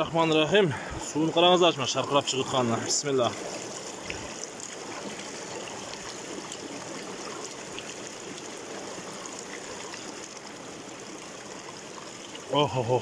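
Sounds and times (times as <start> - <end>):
water rushing over stones: 0.0 - 13.0.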